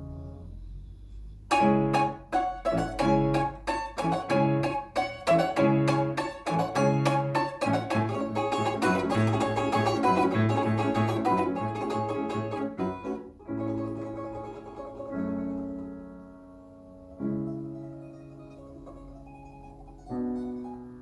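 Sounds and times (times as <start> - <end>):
piano accompaniment: 0.0 - 21.0
plucked string instrument: 1.5 - 21.0.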